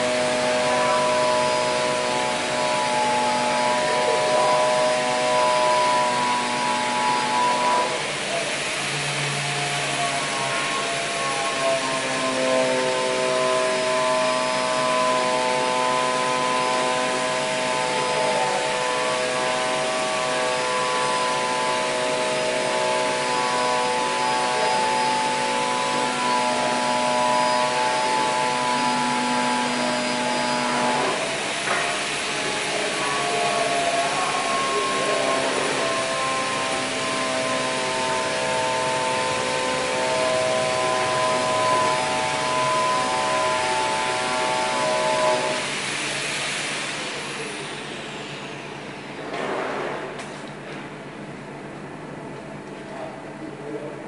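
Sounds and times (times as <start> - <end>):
machinery whirring: 0.0 - 50.4.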